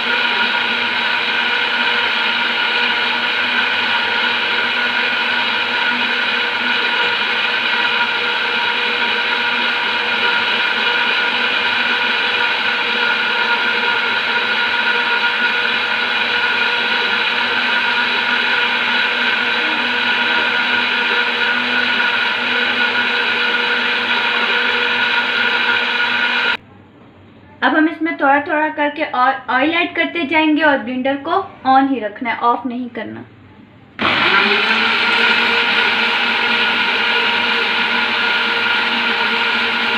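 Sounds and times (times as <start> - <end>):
blender motor whine: 0.0 - 26.6, 34.0 - 39.9.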